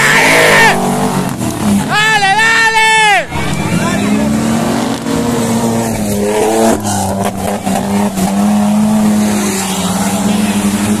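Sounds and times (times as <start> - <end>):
off-road engines revving hard: 0.0 - 11.0.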